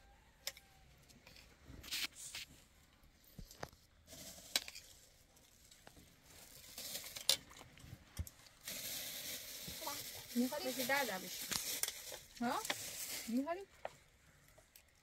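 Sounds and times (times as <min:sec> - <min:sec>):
rustling: 0:01.2 - 0:14.1.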